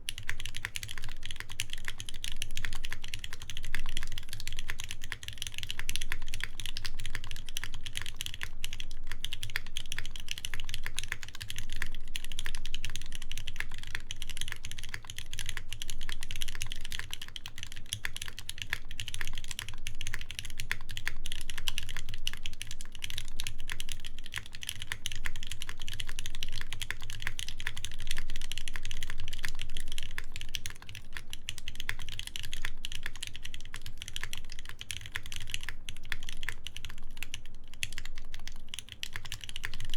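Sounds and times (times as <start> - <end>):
fast typing on mechanical keyboard: 0.1 - 39.9.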